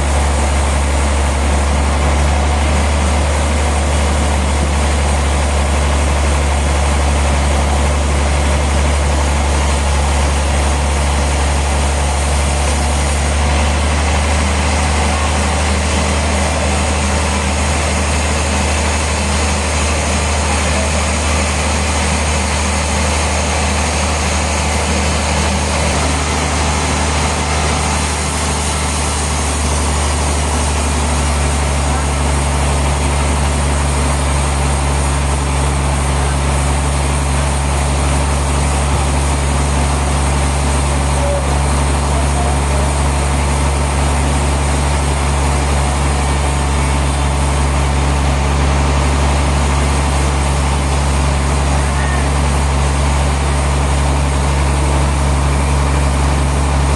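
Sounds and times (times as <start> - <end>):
sawmill machinery engine drone: 0.0 - 56.9.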